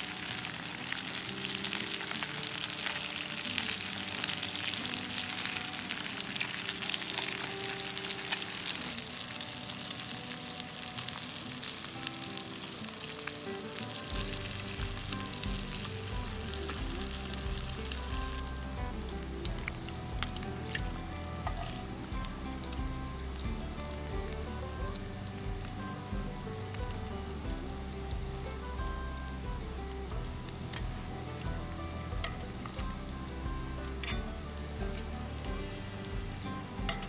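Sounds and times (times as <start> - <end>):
background music with deep bass: 0.0 - 37.0
food sizzling in a skillet: 0.0 - 37.0.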